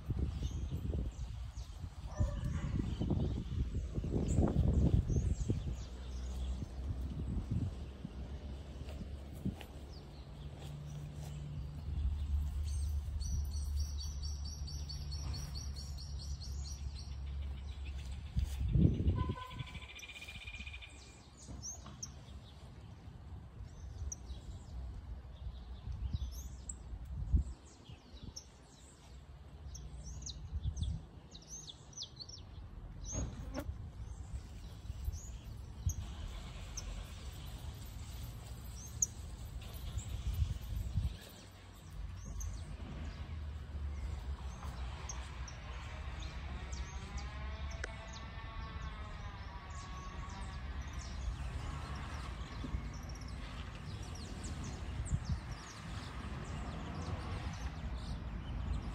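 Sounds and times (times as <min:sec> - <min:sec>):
songbirds chirping: 0:00.0 - 0:58.9.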